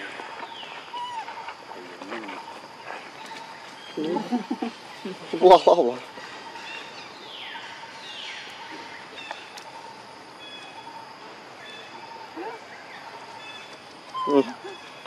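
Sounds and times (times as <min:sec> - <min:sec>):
birds calling: 0:00.0 - 0:15.0
steady background hiss: 0:00.0 - 0:15.0.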